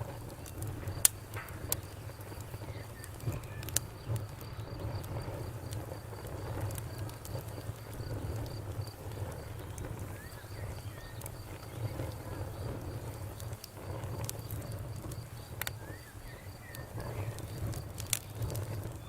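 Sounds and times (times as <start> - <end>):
campfire crackling and popping: 0.0 - 19.0
cricket chirping: 0.0 - 19.0
fire low rumble: 0.0 - 19.0.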